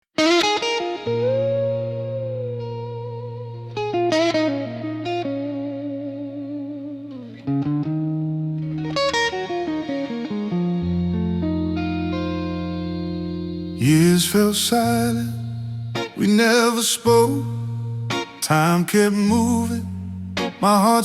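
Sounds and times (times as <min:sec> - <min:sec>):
electric guitar playing blues: 0:00.2 - 0:21.0.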